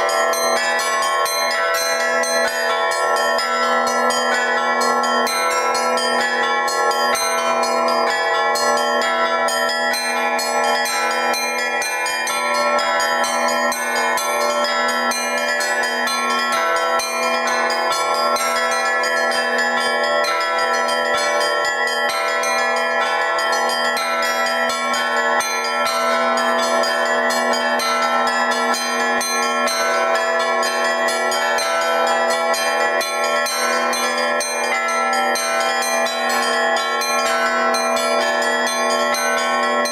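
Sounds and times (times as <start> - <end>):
large bells ringing: 0.0 - 39.9
rapid strikes on small bells: 0.0 - 39.9.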